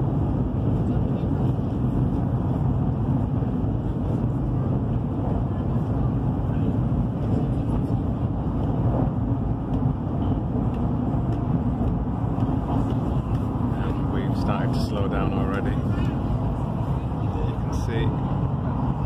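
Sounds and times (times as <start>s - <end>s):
train rumbling inside carriage: 0.0s - 19.0s.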